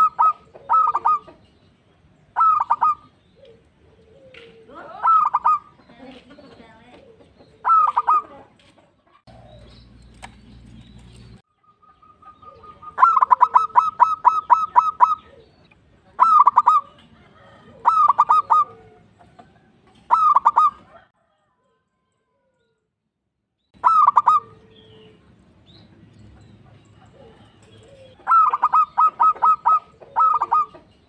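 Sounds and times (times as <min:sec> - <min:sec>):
dove cooing: 0:00.0 - 0:01.6, 0:02.2 - 0:10.0, 0:11.6 - 0:21.1, 0:23.8 - 0:25.4, 0:26.3 - 0:31.0.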